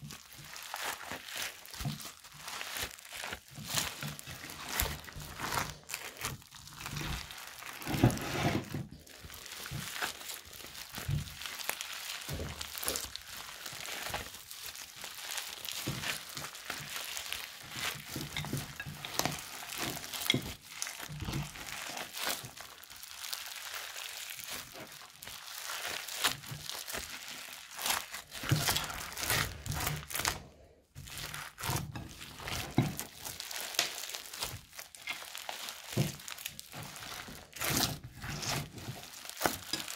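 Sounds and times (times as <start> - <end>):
foam beads crackling in slime: 0.0 - 39.9.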